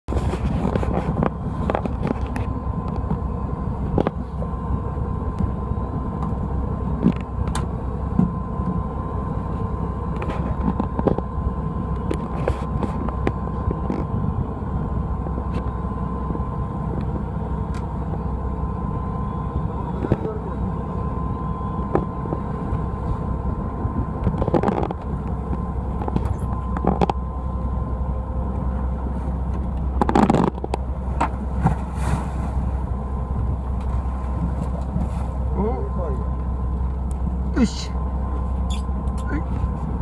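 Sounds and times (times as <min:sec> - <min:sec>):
boat engine rumbling: 0:00.0 - 0:40.0
wind: 0:00.0 - 0:40.0
water noise: 0:00.1 - 0:39.2.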